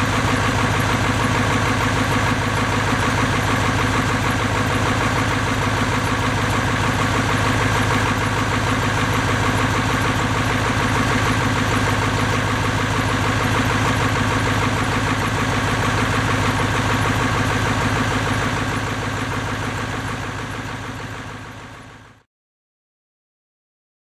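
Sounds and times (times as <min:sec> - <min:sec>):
diesel engine idling: 0:00.0 - 0:22.2.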